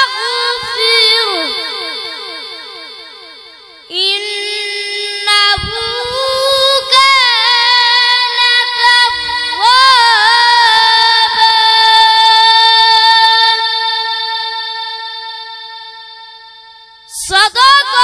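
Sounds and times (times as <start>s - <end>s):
boy reciting melodically: 0.0s - 16.5s, 17.1s - 18.0s.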